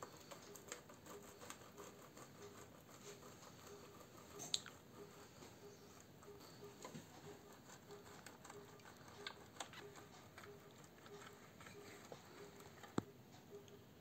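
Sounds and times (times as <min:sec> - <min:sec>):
grater scratching egg: 0:00.0 - 0:13.1.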